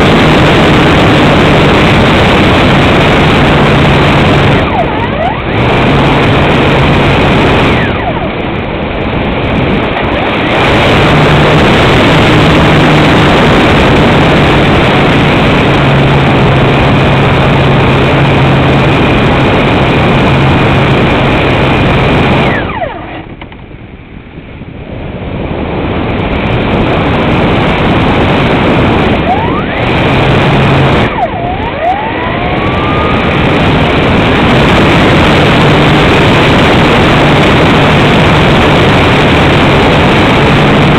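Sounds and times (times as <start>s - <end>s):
propeller hum: 0.0s - 40.9s
wind rushing over microphone: 0.0s - 40.9s.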